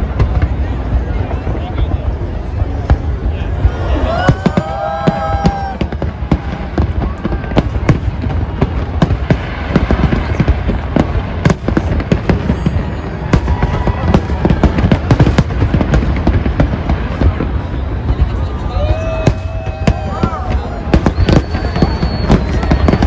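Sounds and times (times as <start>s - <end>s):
deep rumble of booms: 0.0s - 23.0s
fireworks bangs and crackles: 0.0s - 23.0s.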